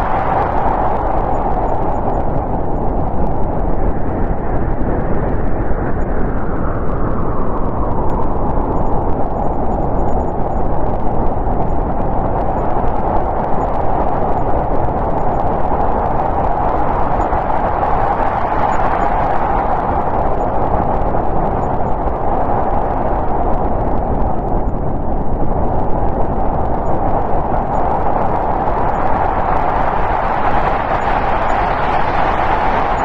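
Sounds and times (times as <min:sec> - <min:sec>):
snowstorm wind blowing: 0:00.0 - 0:33.0.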